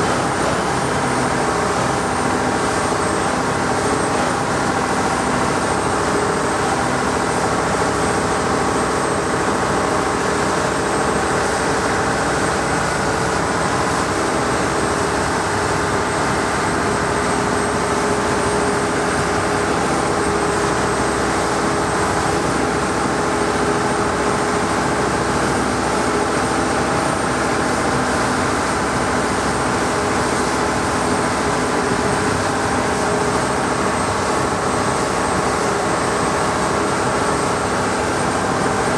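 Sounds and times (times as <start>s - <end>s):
boat engine droning: 0.0s - 38.9s
water rushing past hull: 0.0s - 38.9s.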